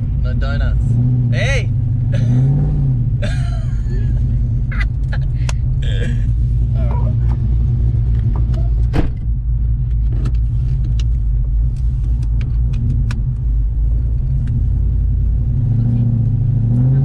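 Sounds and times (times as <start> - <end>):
car engine drone from cabin: 0.0 - 17.0.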